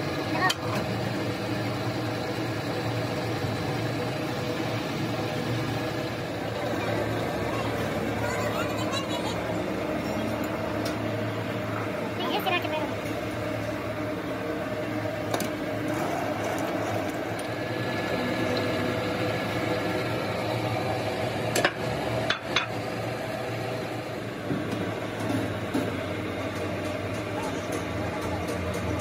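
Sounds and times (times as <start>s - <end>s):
workshop machinery humming: 0.0s - 29.0s.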